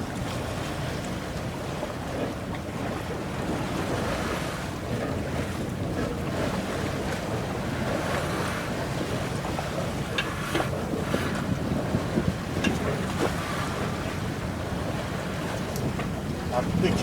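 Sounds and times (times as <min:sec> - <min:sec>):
water washing around boat: 0:00.0 - 0:17.0
wind buffeting microphone: 0:00.0 - 0:17.0.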